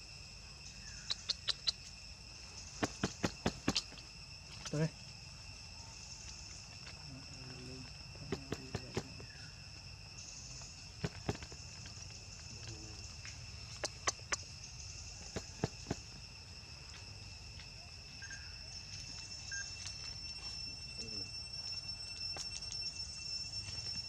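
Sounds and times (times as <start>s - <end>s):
insect chorus high-pitched tones: 0.0s - 24.0s.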